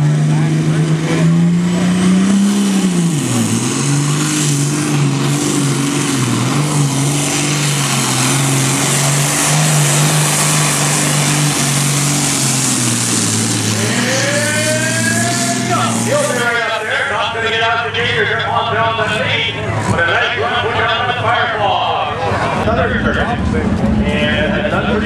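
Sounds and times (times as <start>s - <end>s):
diesel tractor engine under load: 0.0s - 25.0s.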